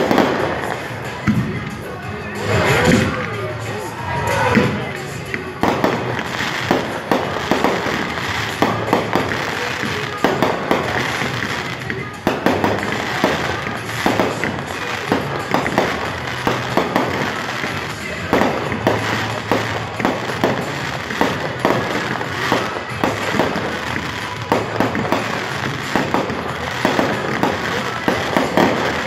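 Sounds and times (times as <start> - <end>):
fireworks bangs and pops: 0.0 - 29.0.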